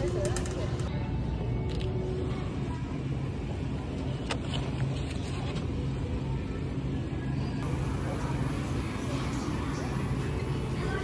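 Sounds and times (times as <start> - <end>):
refrigerated display case hum: 0.0 - 11.0
store ambience: 0.0 - 11.0.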